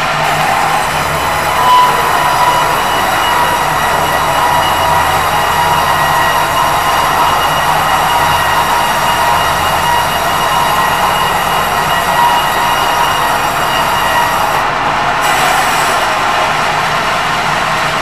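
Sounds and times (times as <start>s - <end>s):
steady high tones: 0.0s - 14.8s
mechanical running noise: 0.0s - 18.0s.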